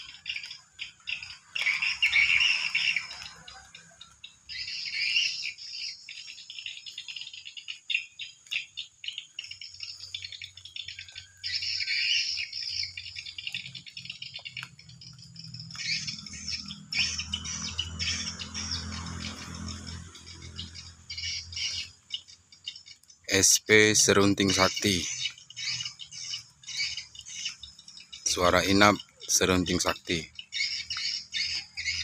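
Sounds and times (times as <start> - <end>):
swiftlets chirping and twittering: 0.0 - 32.0.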